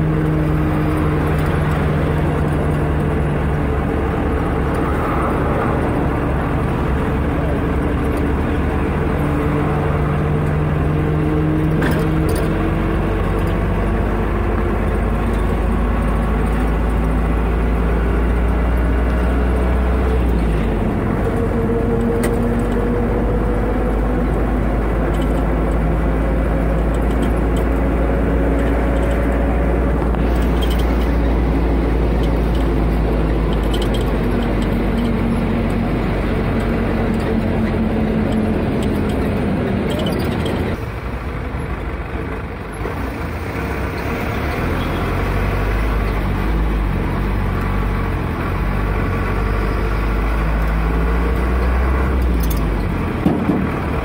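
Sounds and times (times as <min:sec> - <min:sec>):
car engine drone: 0:00.0 - 0:54.0
road noise: 0:00.0 - 0:54.0.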